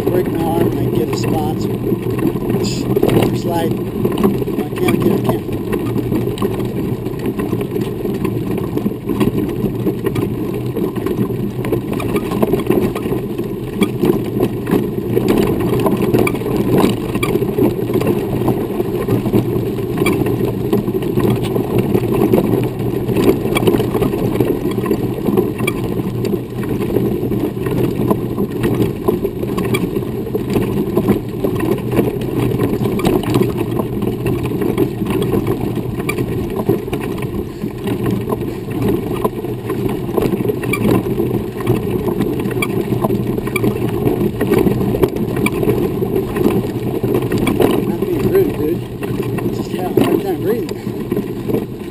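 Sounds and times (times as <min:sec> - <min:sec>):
grit clicking under tyres: 0:00.0 - 0:51.9
wheelchair wheels rolling on dirt: 0:00.0 - 0:51.9.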